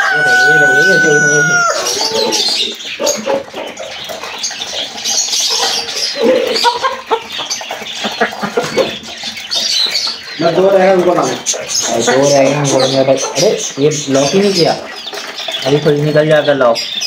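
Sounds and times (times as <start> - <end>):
birds rustling and knocking: 0.0 - 17.0
chickens clucking: 0.0 - 17.0.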